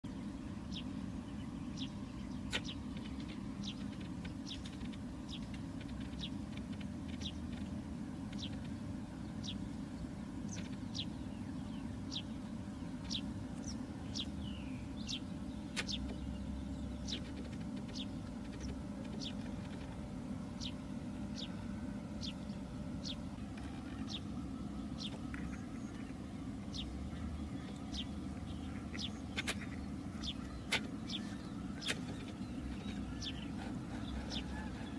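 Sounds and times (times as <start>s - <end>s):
small bird chirping: 0.1s - 34.9s
steady low rumble: 0.1s - 34.9s.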